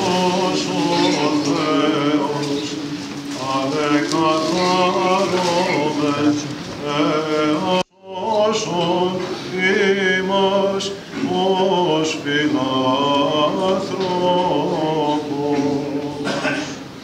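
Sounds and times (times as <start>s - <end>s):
men chanting: 0.0s - 16.8s.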